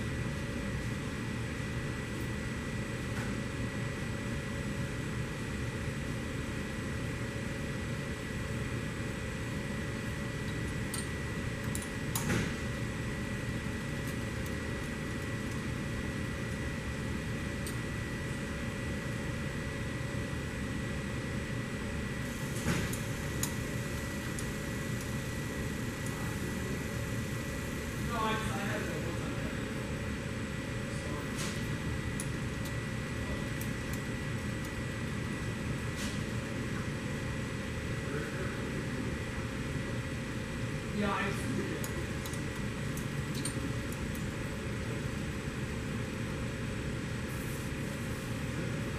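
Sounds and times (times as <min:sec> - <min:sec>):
mechanical hum with high whine: 0:00.0 - 0:48.9.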